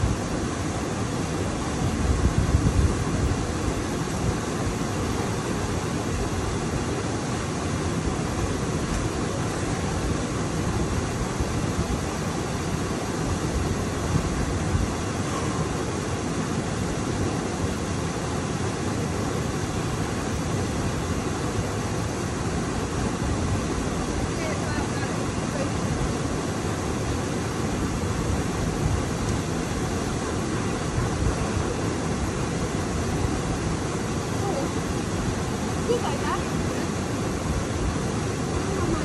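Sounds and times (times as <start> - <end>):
stream flowing over rocks: 0.0 - 39.0
waterfall rushing: 0.0 - 39.0.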